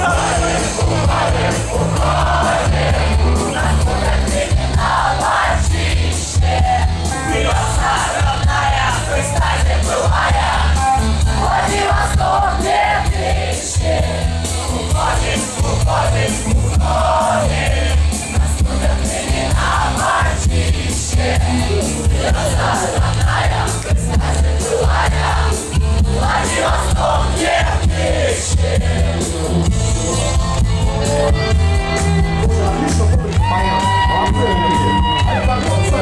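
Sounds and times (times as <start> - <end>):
voices singing: 0.0 - 30.4
loud live rock music: 0.0 - 36.0.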